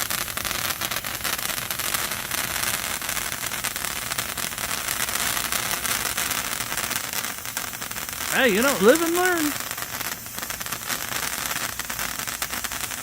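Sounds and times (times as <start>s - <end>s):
sparkler firework fizzing: 0.0s - 13.0s.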